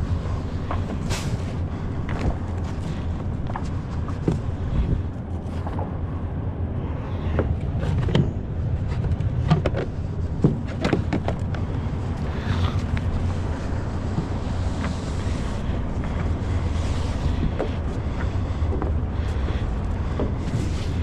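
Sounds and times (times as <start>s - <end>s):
low rumble: 0.0s - 21.0s
wind buffeting microphone: 0.0s - 21.0s.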